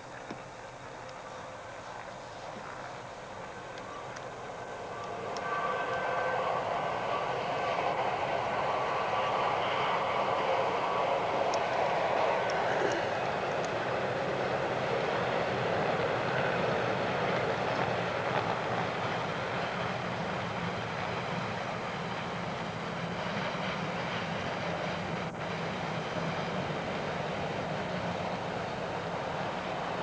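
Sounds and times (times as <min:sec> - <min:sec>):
low drone: 0:00.0 - 0:30.0
train rumbling past: 0:00.0 - 0:30.0.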